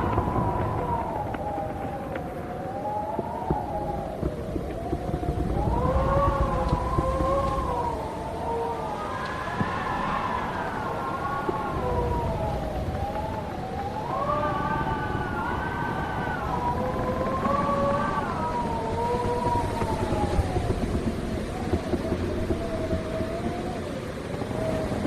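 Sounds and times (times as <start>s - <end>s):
howling wind whistling: 0.0s - 25.0s
low rumble of gusting air: 0.0s - 25.0s.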